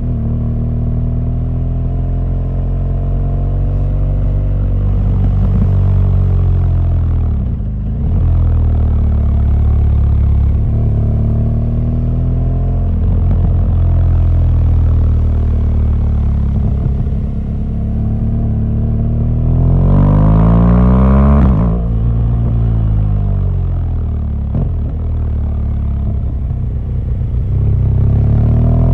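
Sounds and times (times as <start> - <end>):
motorcycle engine running: 2.0 - 11.7, 12.4 - 28.9.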